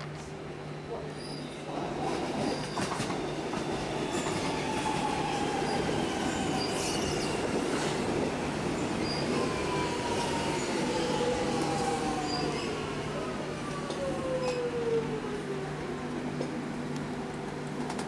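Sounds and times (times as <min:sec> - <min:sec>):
train whine: 0:00.0 - 0:18.0
train wheels rumbling on rail: 0:01.7 - 0:18.0.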